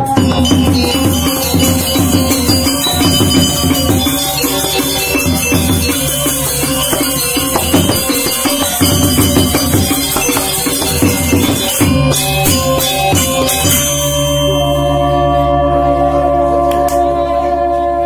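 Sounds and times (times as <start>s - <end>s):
drums: 0.0s - 15.0s
small cymbals jingling: 0.0s - 15.7s
metallophones ringing: 0.0s - 17.0s
low gong tones: 0.0s - 18.0s.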